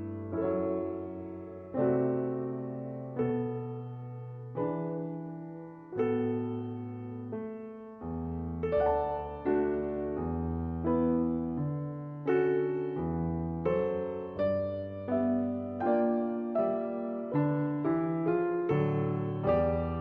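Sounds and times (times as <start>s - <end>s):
slow piano piece: 0.0s - 20.0s.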